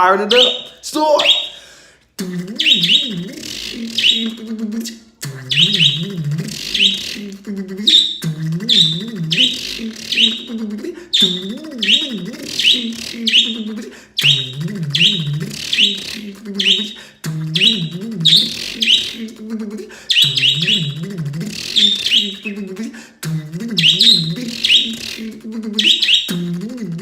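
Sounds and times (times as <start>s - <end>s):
pet bird chirping: 0.2s - 1.6s, 2.6s - 4.6s, 5.5s - 17.0s, 17.6s - 19.3s, 20.1s - 22.8s, 23.8s - 26.4s
man imitating engine cranking: 2.2s - 27.0s.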